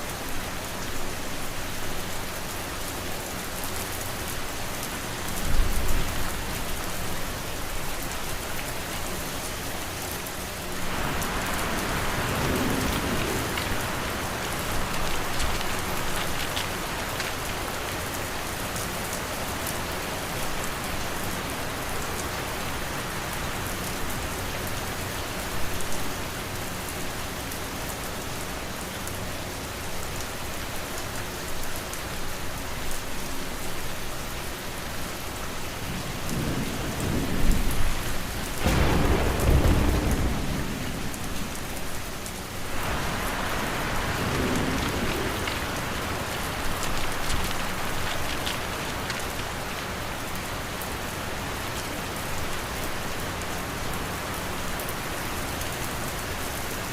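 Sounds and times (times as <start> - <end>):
rain falling on a surface: 0.0 - 56.9.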